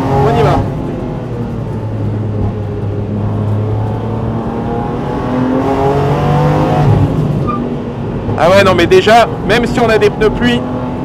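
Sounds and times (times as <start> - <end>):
car engine running from cockpit: 0.0 - 11.0.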